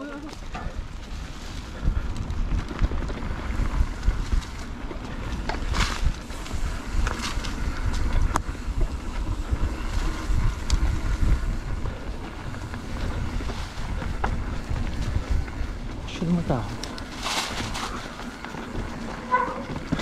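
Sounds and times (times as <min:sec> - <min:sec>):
bike clicks and knocks: 0:00.0 - 0:16.1, 0:16.7 - 0:20.0
wind buffeting microphone: 0:00.0 - 0:20.0.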